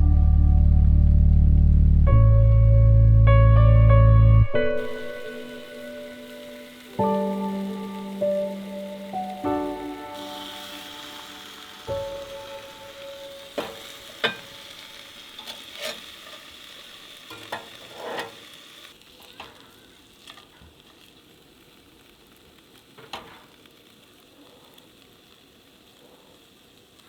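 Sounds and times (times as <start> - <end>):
fish sizzling in a pan: 4.7 - 27.0.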